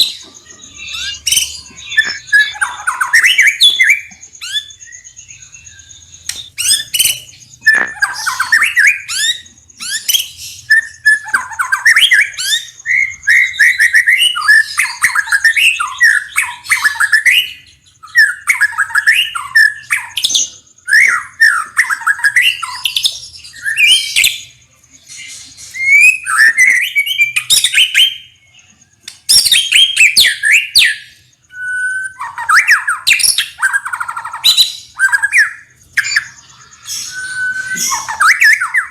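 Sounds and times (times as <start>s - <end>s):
bird singing whistled phrases: 0.0s - 28.6s, 29.2s - 38.9s.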